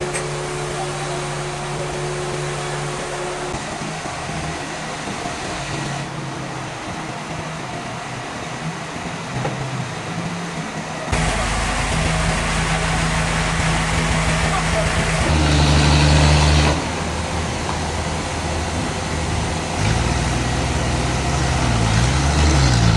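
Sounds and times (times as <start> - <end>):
sawmill machinery humming: 0.0 - 22.9.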